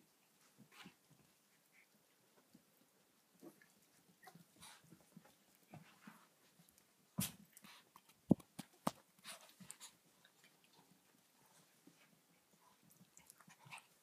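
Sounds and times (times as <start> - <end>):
puppies scuffling: 0.1 - 14.0.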